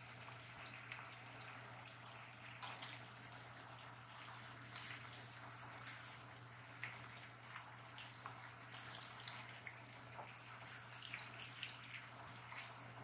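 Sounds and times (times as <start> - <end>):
chicken sizzling in oil: 0.0 - 13.0
oil popping and crackling: 0.0 - 13.0.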